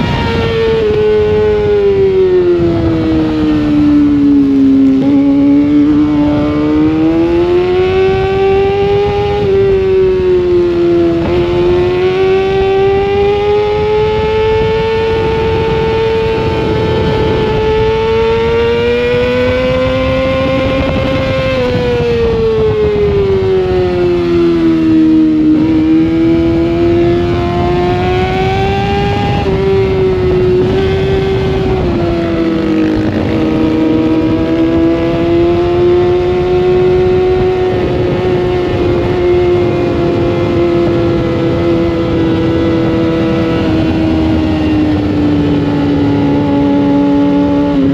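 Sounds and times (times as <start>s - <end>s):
motorcycle engine running hard: 0.0s - 47.9s
wind rushing: 0.0s - 47.9s.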